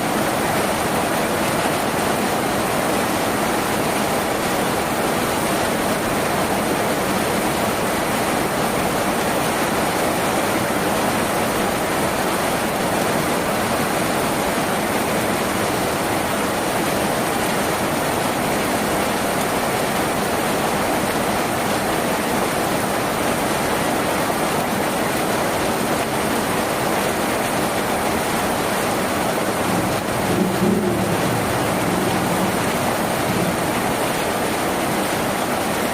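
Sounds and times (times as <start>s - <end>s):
heavy rain on a tin roof: 0.0s - 35.9s.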